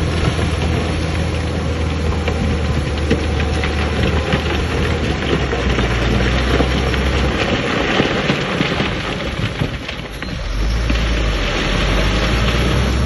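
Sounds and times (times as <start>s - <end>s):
dense crackling rattle: 0.0s - 13.0s
diesel engine running: 0.0s - 13.0s.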